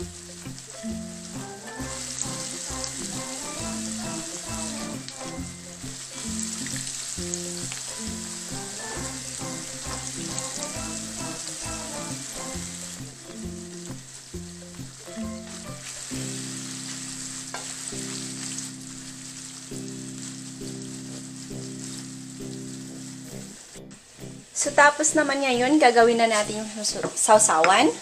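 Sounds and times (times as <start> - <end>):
squid sizzling in hot oil: 0.0 - 24.4
background music with bass line: 0.0 - 25.7.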